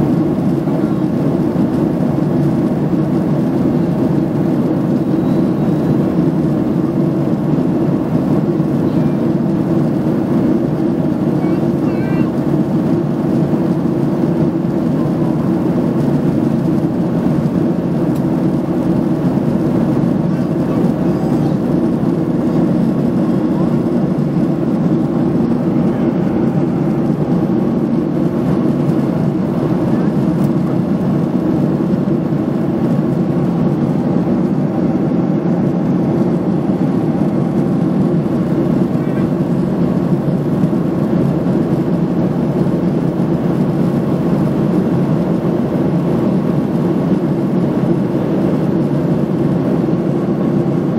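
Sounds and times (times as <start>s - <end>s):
airliner cabin engine drone: 0.0s - 50.9s.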